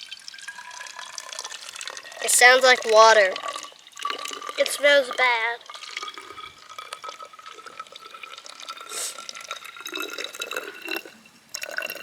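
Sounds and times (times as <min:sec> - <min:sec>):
faint steady ringing tone: 0:00.0 - 0:12.0
liquid trickling and splashing: 0:00.0 - 0:12.0.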